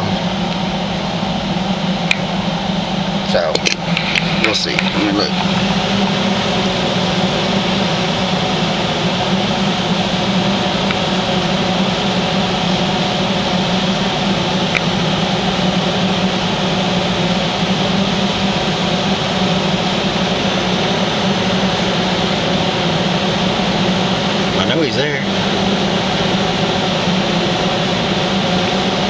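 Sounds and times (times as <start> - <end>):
steady mechanical drone in truck cab: 0.0 - 29.0.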